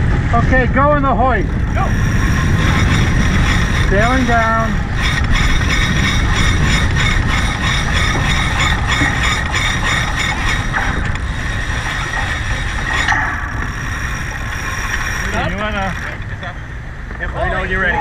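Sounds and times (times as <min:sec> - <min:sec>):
wind and water rushing: 0:00.0 - 0:16.0
winch ratcheting: 0:01.6 - 0:16.5.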